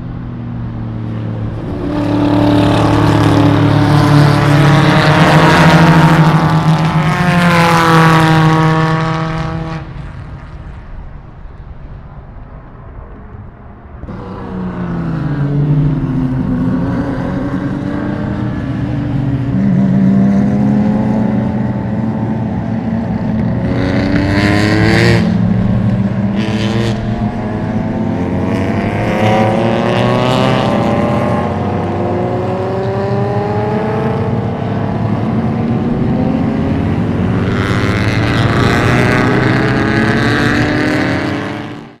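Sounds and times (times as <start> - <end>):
racing car engines at full throttle: 0.0 - 42.0.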